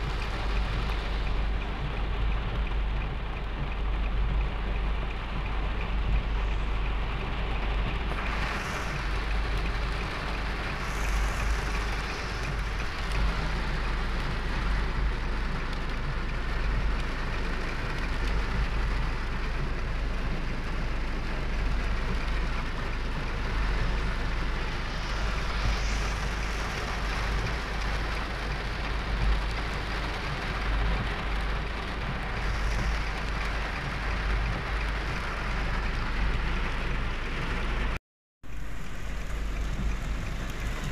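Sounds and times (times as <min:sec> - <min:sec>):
low rumble: 0:00.0 - 0:40.9
rain drumming on car roof: 0:00.0 - 0:40.9.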